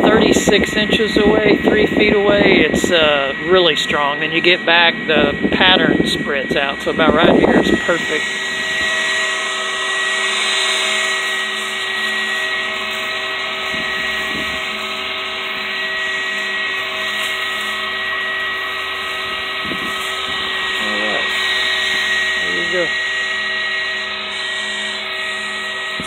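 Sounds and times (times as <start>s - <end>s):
small fan motor whine: 0.0s - 26.0s.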